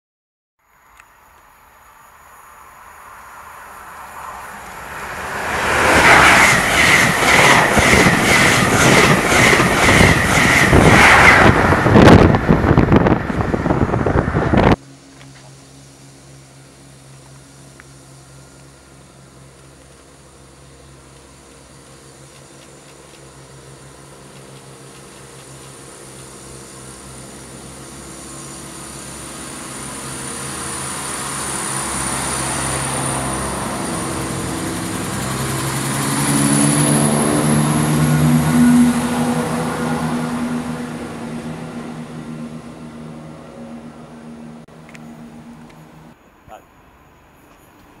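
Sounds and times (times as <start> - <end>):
high whine: 0.6 - 48.0
train engine drone: 0.6 - 48.0
train wheel noise: 3.1 - 15.6, 18.4 - 46.1.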